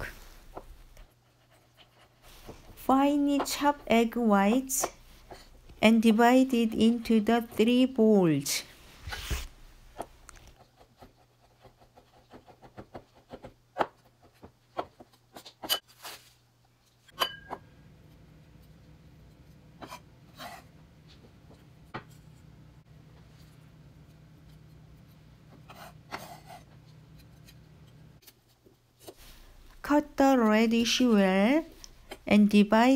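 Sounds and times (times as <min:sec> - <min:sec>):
low steady hum: 0:00.0 - 0:10.6, 0:16.3 - 0:32.9.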